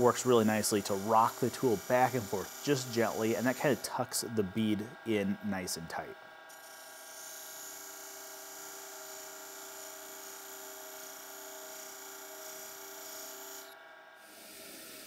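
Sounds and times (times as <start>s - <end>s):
gouge scraping spinning wood: 0.0s - 4.8s, 6.6s - 15.0s
wood lathe humming: 0.0s - 5.9s, 6.5s - 15.0s.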